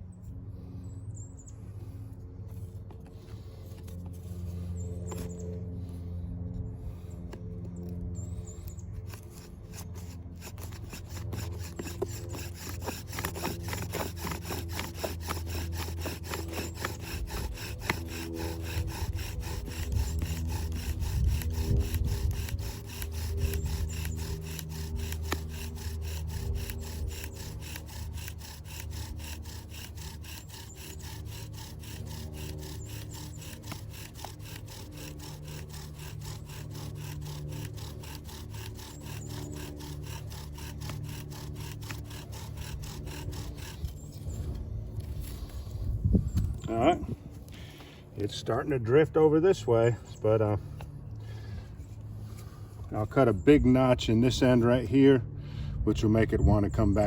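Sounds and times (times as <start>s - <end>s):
wood grinding on wood: 2.5s - 5.6s, 6.9s - 54.9s.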